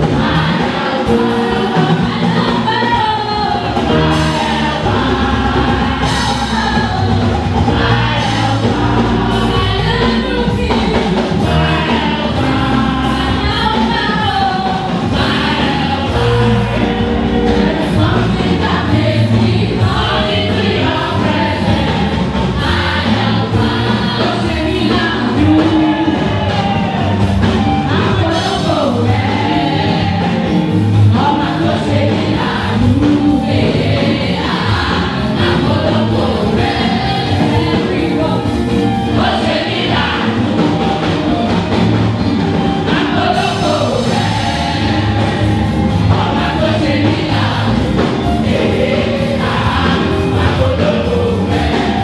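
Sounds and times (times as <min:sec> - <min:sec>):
choir singing gospel: 0:00.0 - 0:52.0
instrumental accompaniment: 0:00.0 - 0:52.0.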